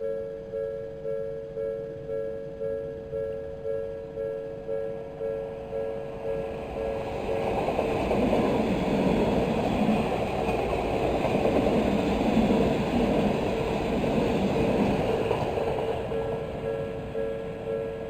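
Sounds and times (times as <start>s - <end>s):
electric train passing: 0.5s - 18.0s.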